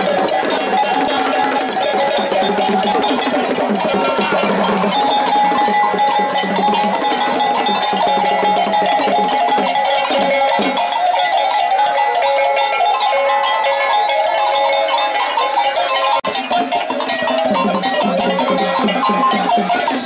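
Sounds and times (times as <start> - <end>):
crowd voices: 0.0 - 20.0
metal bell struck rhythmically: 0.0 - 20.0.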